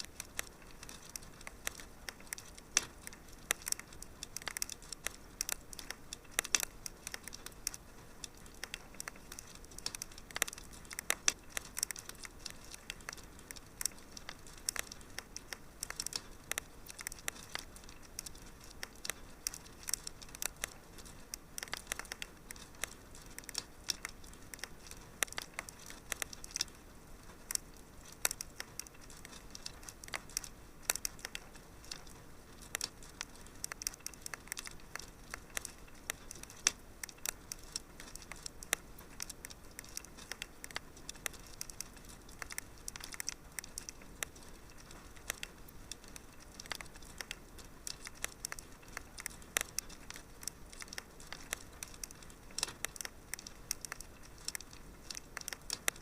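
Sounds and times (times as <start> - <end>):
soft steady hiss: 0.0 - 56.0
wood fire crackling: 0.0 - 56.0.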